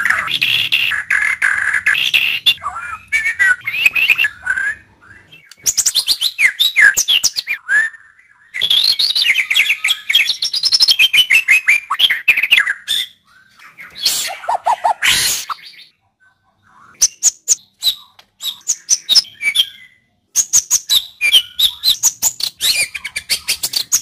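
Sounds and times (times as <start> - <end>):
bird singing whistles and chatter: 0.0 - 15.9, 16.7 - 24.0.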